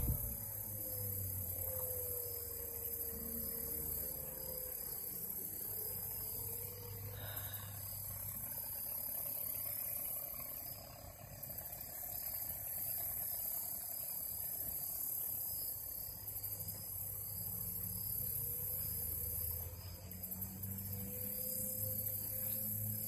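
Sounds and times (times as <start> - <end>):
distant outboard motor running: 0.0 - 23.0
insects chirring: 0.0 - 23.0.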